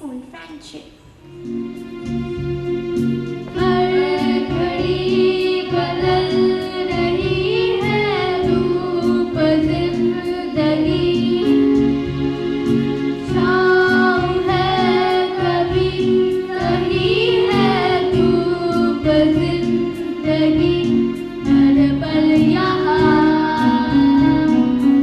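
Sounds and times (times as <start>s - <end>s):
instrumental accompaniment with beat: 1.1s - 25.0s
children singing together: 3.5s - 25.0s.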